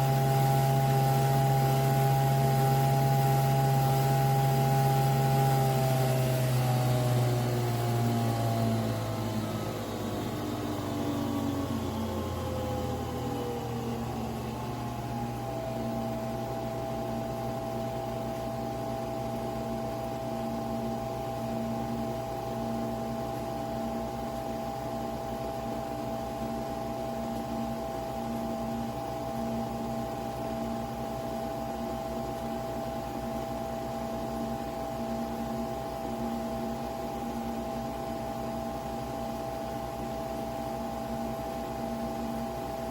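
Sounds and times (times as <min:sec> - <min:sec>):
coffee machine motor whine: 0:00.0 - 0:42.9.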